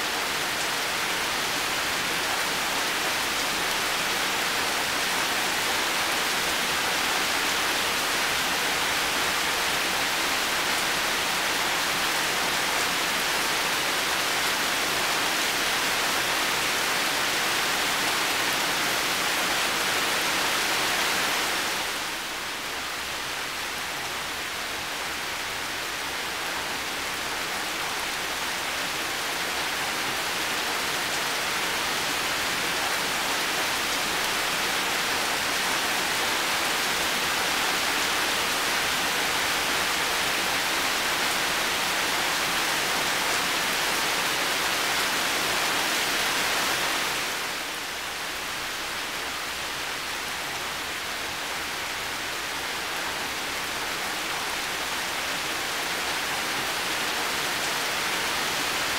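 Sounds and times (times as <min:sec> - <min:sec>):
heavy rain: 0:00.0 - 0:58.9.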